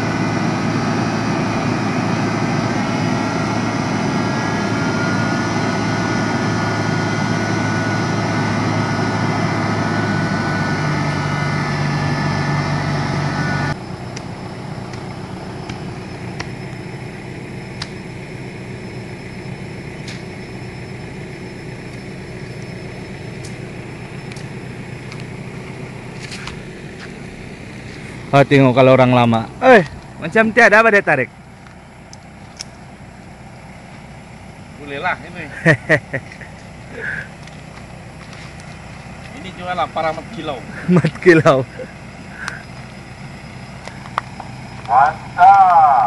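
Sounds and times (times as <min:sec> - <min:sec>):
diesel engine running: 0:00.0 - 0:46.0
engine whine: 0:00.0 - 0:46.0.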